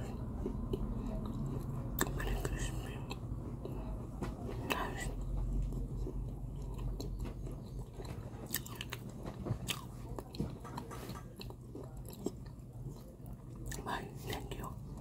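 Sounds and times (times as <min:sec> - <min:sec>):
crunchy chewing: 0:00.0 - 0:15.0
steady low hum: 0:00.0 - 0:15.0.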